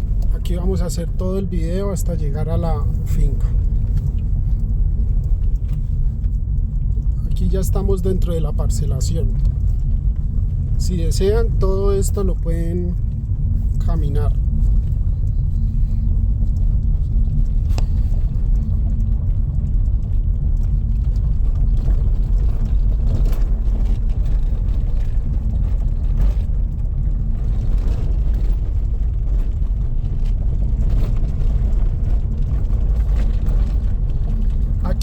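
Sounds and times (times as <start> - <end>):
car engine and road noise: 0.0 - 35.0
constant hum: 0.0 - 35.0.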